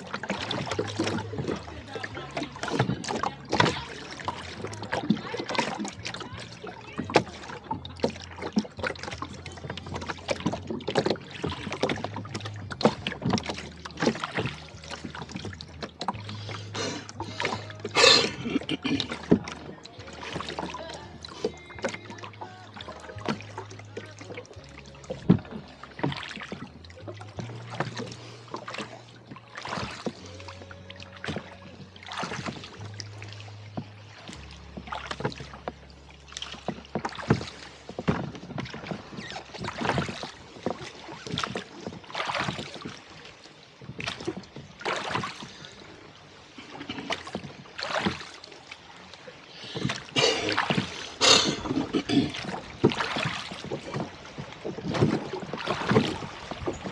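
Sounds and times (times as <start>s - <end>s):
oar blades splashing water: 0.0s - 56.9s
oars knocking: 0.0s - 56.9s.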